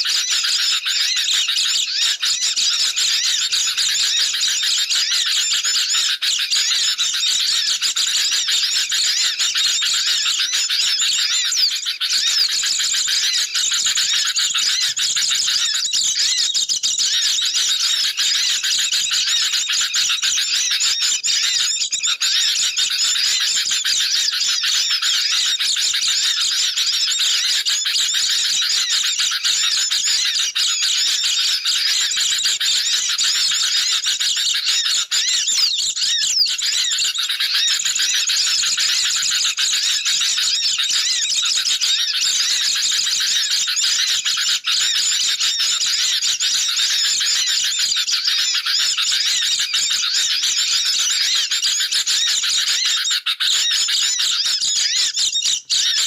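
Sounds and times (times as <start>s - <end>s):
songbirds chirping in chorus: 0.0s - 56.0s.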